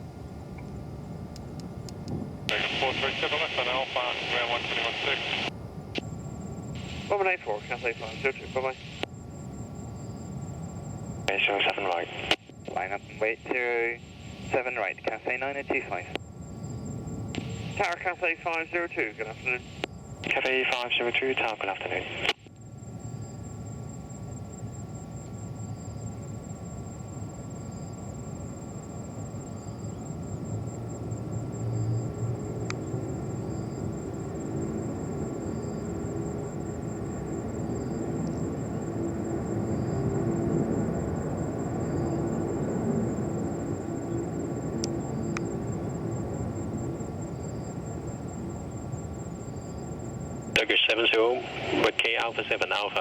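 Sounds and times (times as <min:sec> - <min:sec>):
distant jet engines rumbling: 0:00.0 - 0:53.0.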